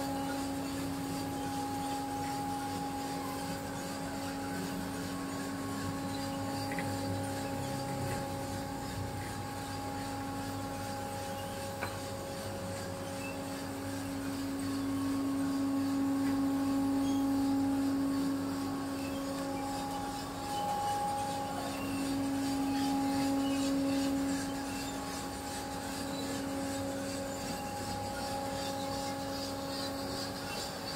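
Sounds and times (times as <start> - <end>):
machine motor humming: 0.0 - 30.9.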